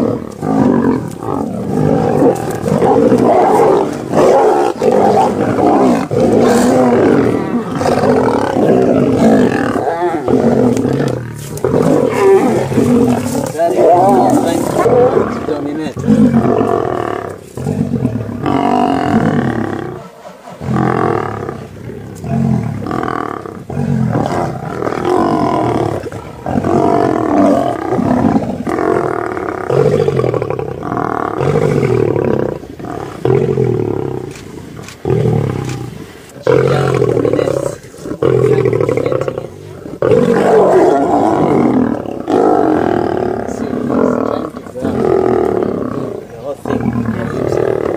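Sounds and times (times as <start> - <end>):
lions growling: 0.0 - 47.9.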